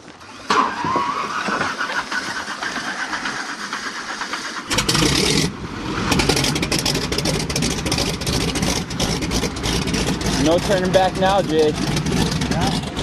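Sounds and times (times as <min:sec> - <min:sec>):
engine starting and rumbling: 0:00.2 - 0:13.0.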